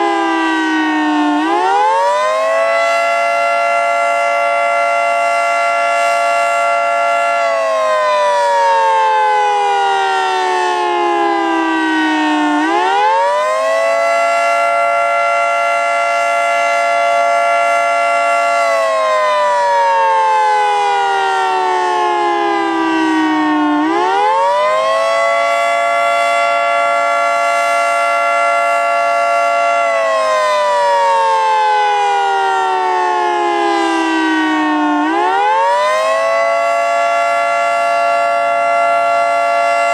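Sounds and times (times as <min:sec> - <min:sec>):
two-tone warning siren wailing: 0:00.0 - 0:39.9.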